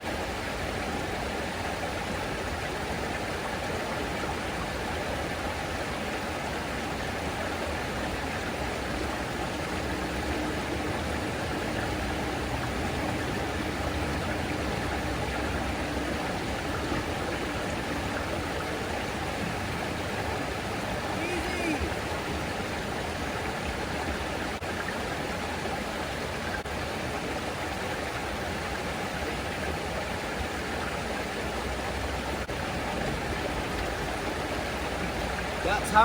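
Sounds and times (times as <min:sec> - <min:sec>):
waterfall rushing: 0:00.1 - 0:36.0.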